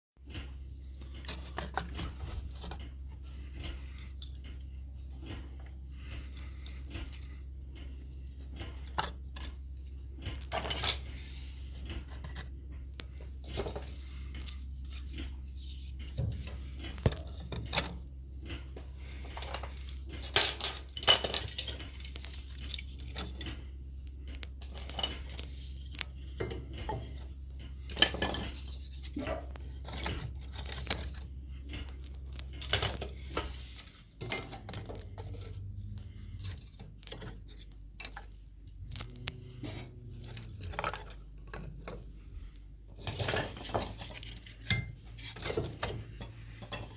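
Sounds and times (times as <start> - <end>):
clinks knocks and rustles: 0.2 - 46.9
steady low hum: 0.2 - 46.9.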